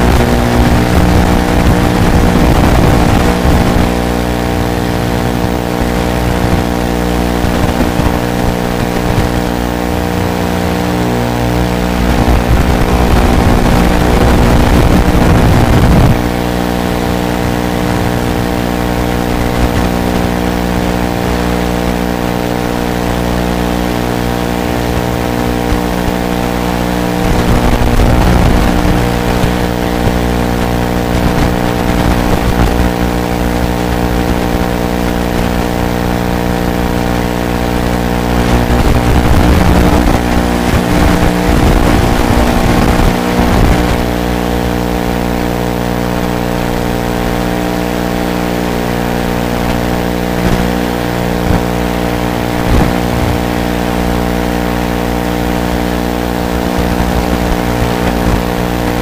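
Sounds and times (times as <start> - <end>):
steady buzz: 0.0 - 59.0.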